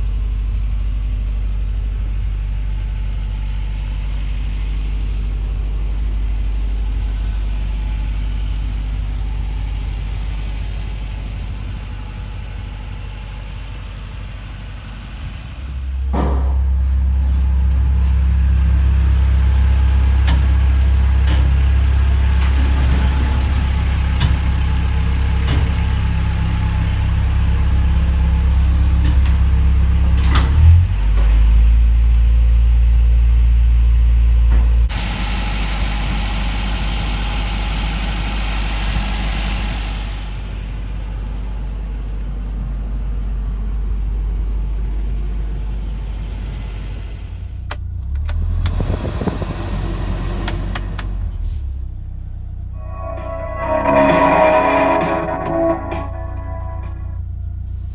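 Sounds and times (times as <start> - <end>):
truck engine idling: 0.0 - 57.9.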